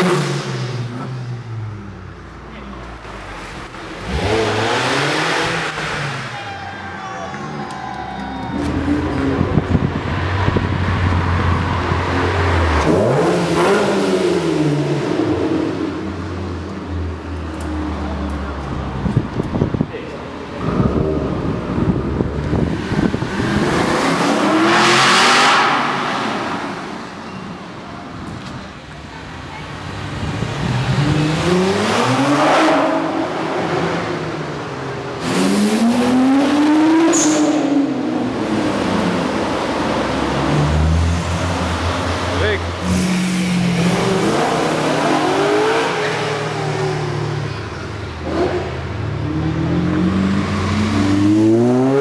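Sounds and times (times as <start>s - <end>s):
sports car engine accelerating: 3.0s - 6.3s, 8.5s - 27.4s, 30.1s - 52.0s.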